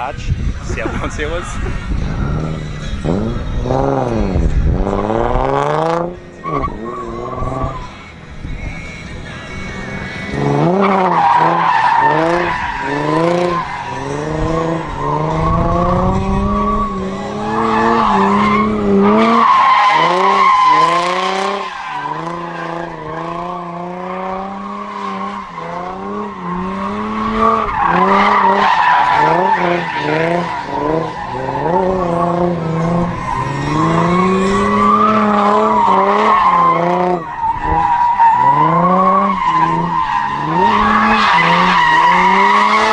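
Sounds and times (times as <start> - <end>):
car engine revving: 0.8 - 42.9.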